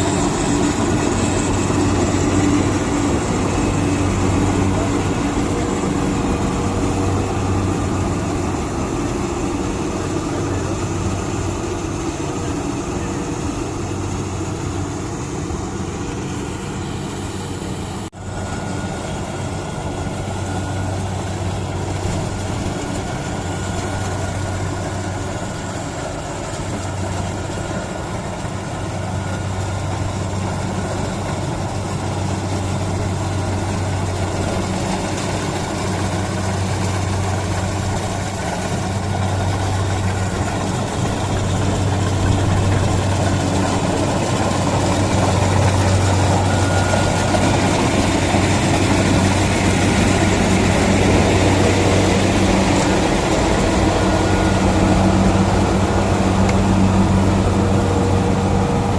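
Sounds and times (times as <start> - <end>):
diesel engine humming: 0.0 - 58.9.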